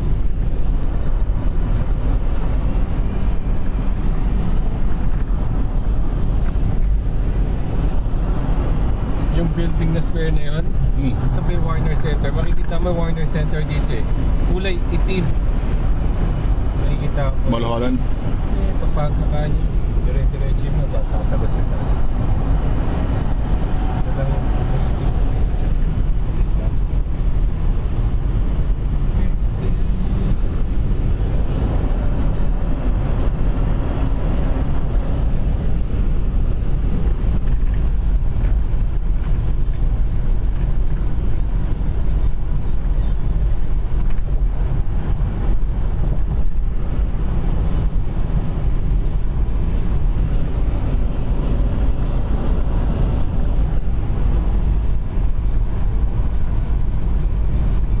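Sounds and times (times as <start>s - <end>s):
road and wind noise inside car: 0.0s - 58.0s.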